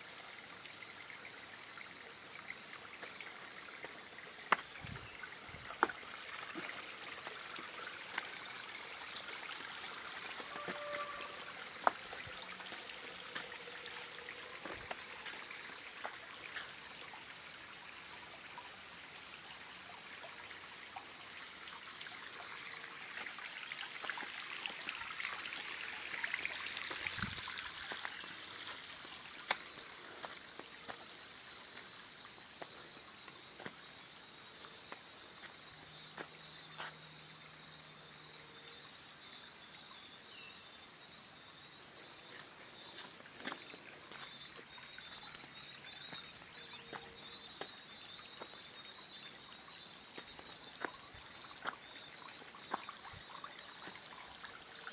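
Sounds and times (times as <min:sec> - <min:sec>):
stream trickling over rocks: 0:00.0 - 0:54.9.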